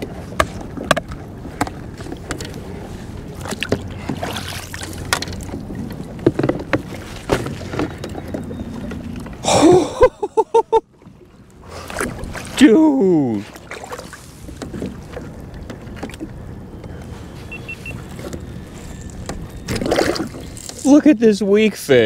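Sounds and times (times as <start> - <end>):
water lapping at hull: 0.0 - 22.0.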